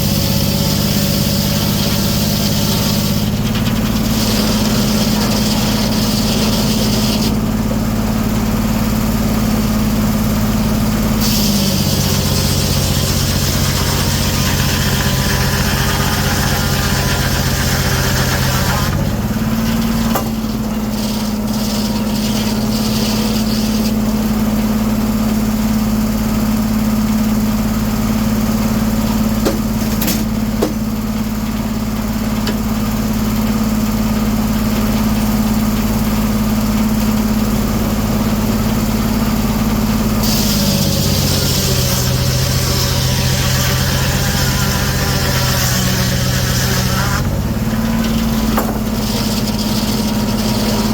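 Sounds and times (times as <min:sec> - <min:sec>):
sawmill engine droning: 0:00.0 - 0:50.9.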